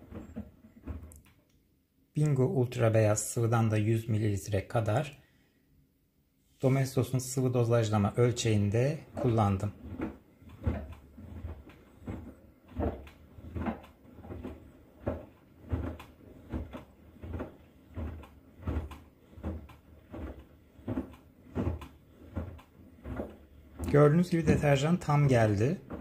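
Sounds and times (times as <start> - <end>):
washing machine load sloshing and thudding: 0.0 - 1.4, 6.5 - 26.0.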